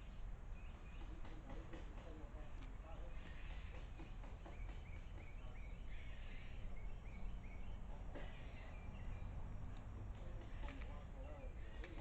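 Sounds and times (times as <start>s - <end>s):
small bird chirping: 0.0s - 1.6s, 3.2s - 12.0s.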